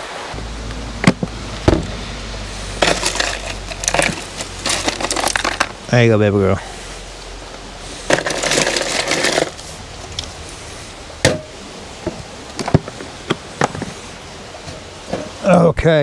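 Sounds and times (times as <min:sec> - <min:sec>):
rustling: 0:01.0 - 0:06.0, 0:06.6 - 0:15.4.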